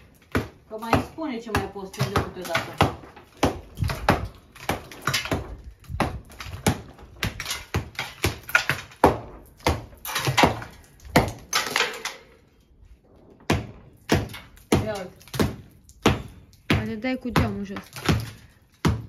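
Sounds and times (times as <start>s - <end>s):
hammer striking plaster wall: 0.0s - 11.4s, 13.5s - 19.0s.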